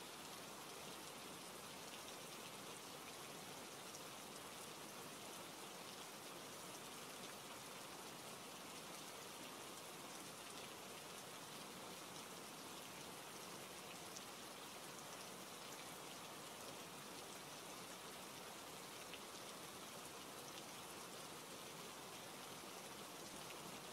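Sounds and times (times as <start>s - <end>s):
rain hiss: 0.0s - 23.9s.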